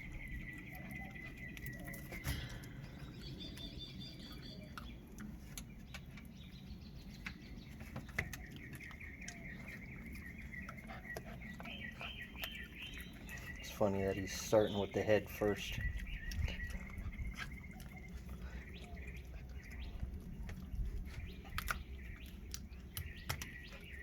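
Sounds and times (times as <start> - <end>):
birds chirping: 0.0 - 24.0
dog chewing and crunching: 0.0 - 24.0.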